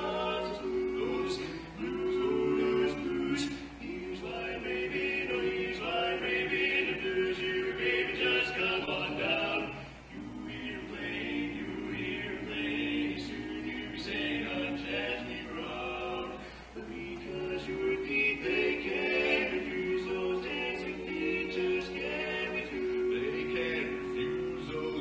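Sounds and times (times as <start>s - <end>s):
male vocal quartet singing: 0.0s - 25.0s.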